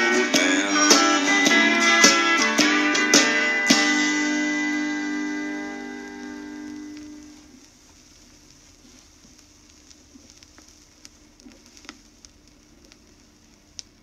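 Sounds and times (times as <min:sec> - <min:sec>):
faint steady hum: 0:00.0 - 0:14.0
vinyl crackles and pops: 0:00.0 - 0:14.0
vinyl surface hiss: 0:00.0 - 0:14.0.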